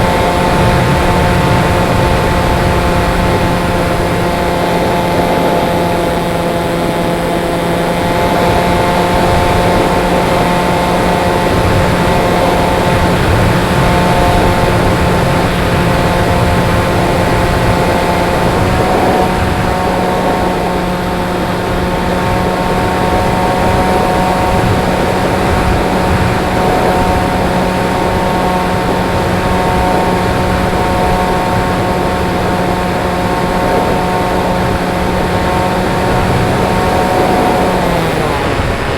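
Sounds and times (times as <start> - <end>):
model glider motor whining: 0.0 - 38.9
wind rush: 0.0 - 38.9.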